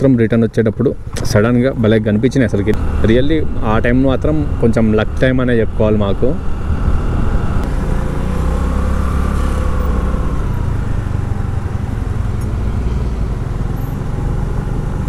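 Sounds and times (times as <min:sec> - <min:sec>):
faint whine: 0:00.0 - 0:14.7
wind rumble on microphone: 0:01.0 - 0:15.0
scooter engine: 0:02.6 - 0:15.0.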